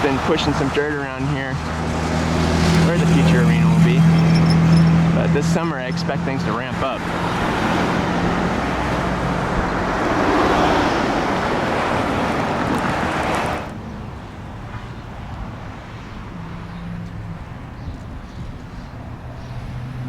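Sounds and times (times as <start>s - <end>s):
cars rushing past: 0.0s - 20.0s
steady traffic hum: 0.0s - 20.0s.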